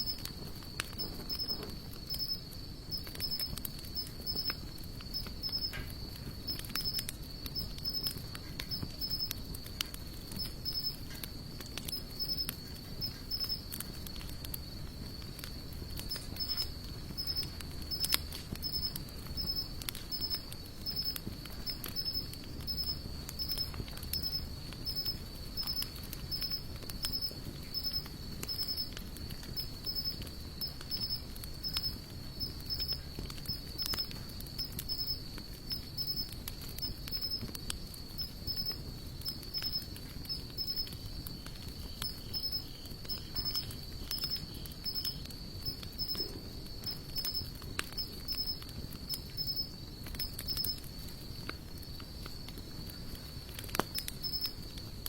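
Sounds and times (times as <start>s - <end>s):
insect chirping: 0.0s - 55.0s
wood fire crackling and popping: 0.0s - 55.0s.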